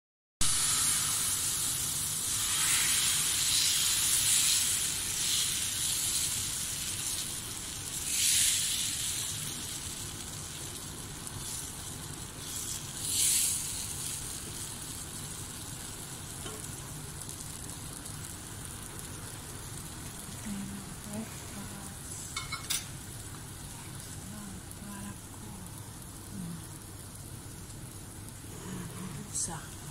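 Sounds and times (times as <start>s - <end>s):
batter sizzling on hot pan: 0.4s - 29.9s.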